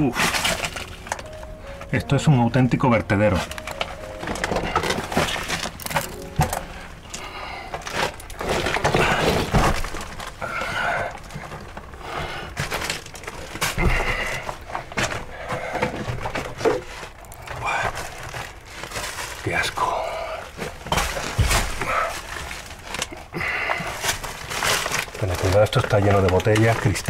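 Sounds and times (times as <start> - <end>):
footsteps crunching over broken glass: 3.1 - 27.0
knocks and cracks: 3.4 - 19.6, 20.5 - 23.2, 23.8 - 27.0.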